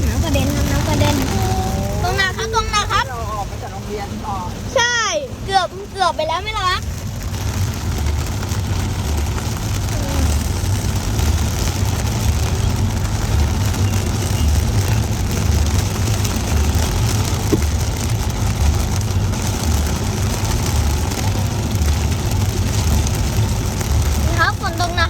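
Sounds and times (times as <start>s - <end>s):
heavy rain and road spray hiss: 0.0s - 25.0s
vehicle rumble on wet road: 0.0s - 25.0s.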